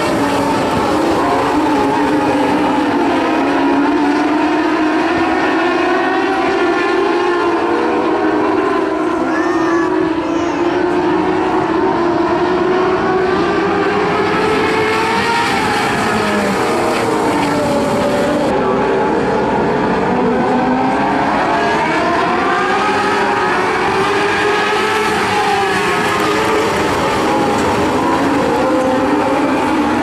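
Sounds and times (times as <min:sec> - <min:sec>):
race car engines whining: 0:00.0 - 0:30.0.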